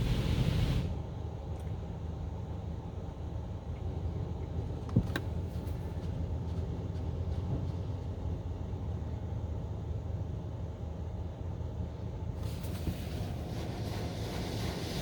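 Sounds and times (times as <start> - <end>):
low rumble inside car: 0.0 - 15.0.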